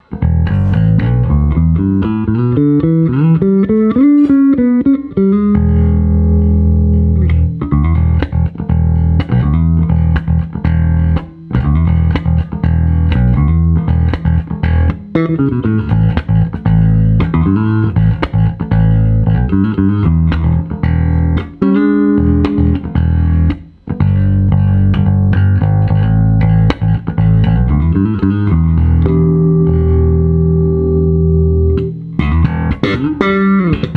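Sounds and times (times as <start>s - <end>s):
electric bass guitar playing: 0.0s - 33.9s.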